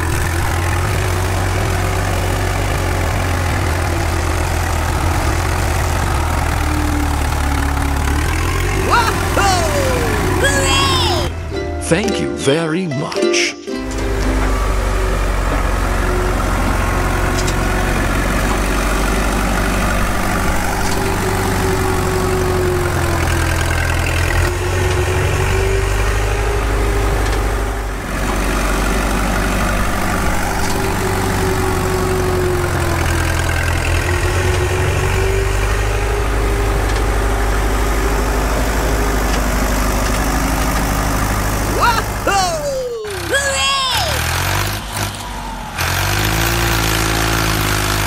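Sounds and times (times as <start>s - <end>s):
tractor engine idling: 0.0s - 12.1s, 13.8s - 48.0s.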